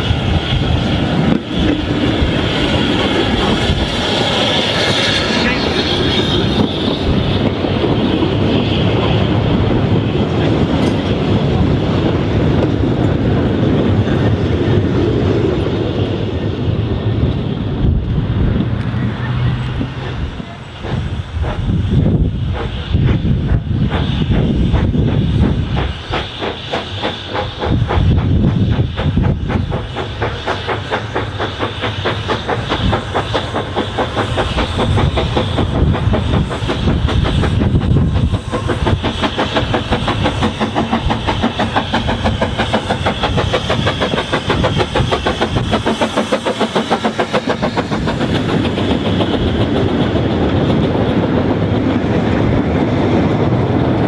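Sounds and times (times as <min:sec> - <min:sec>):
train clattering: 0:00.0 - 0:54.0.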